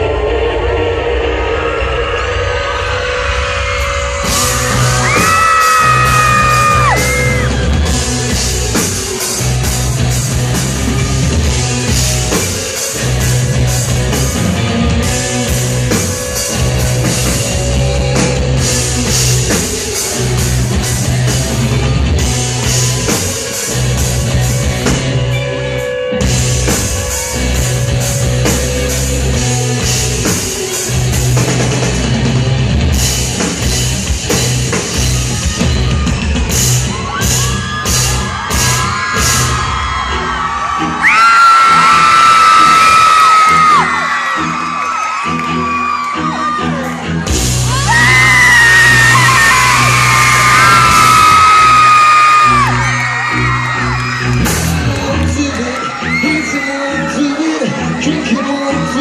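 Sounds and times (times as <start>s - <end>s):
crowd scream: 0.0s - 24.0s, 34.7s - 59.0s
live pop-rock music: 0.0s - 59.0s.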